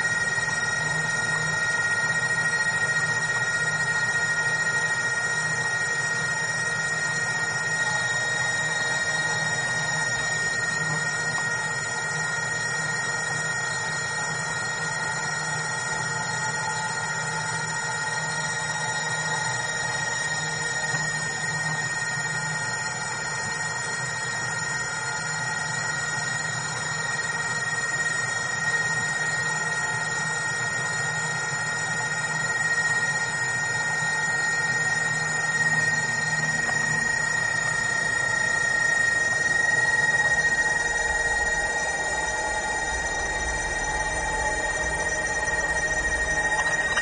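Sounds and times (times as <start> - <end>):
underwater motor whine: 0.0 - 47.0.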